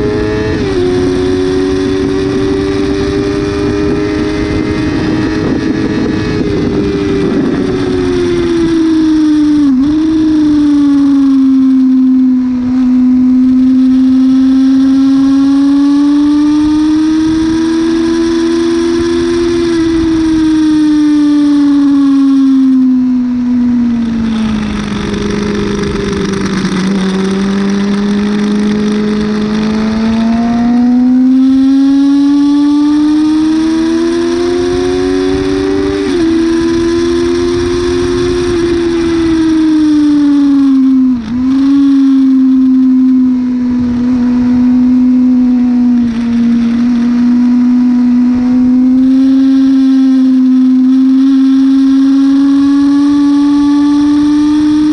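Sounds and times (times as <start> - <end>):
motorcycle engine at speed: 0.0 - 54.9
wind noise: 0.0 - 54.9.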